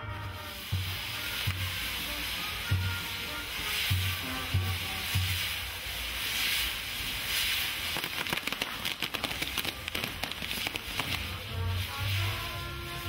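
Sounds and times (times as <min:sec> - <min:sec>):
fire wheels hissing: 0:00.0 - 0:13.0
firecrackers crackling: 0:00.0 - 0:13.0.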